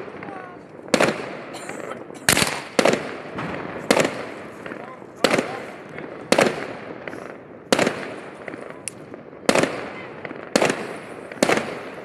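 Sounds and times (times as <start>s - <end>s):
fireworks bursting with bangs: 0.0s - 12.0s
small fireworks crackles: 0.0s - 12.0s.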